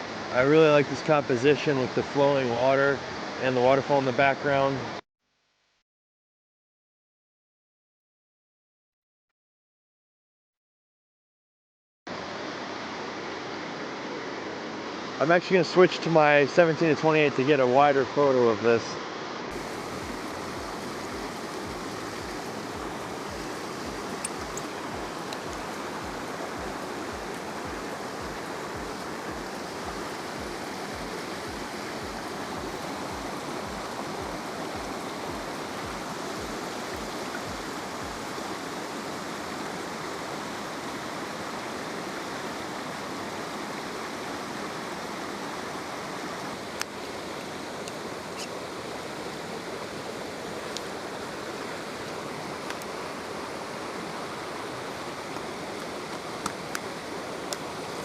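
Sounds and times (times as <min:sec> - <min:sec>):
brook flowing: 0:00.0 - 0:05.0, 0:12.1 - 0:58.0
small waterfall rushing: 0:00.0 - 0:05.0, 0:12.1 - 0:58.0.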